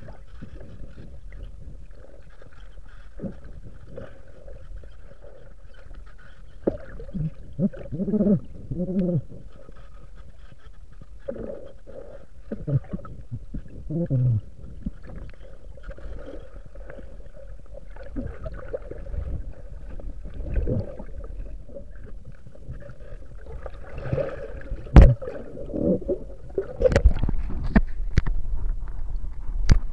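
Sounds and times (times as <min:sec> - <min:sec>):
water sloshing and gurgling: 0:00.0 - 0:29.9.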